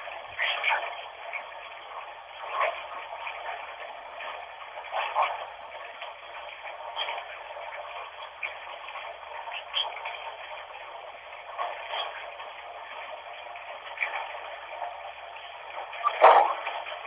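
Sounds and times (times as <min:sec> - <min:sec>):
running bathwater: 0:00.0 - 0:17.0.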